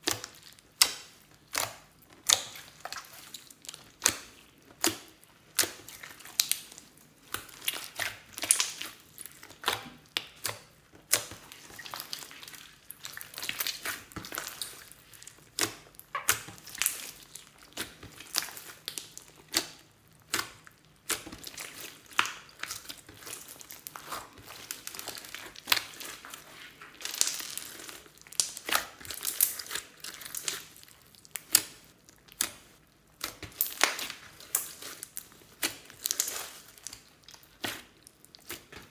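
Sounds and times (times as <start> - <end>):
slime crackling and squelching: 0.0 - 38.9.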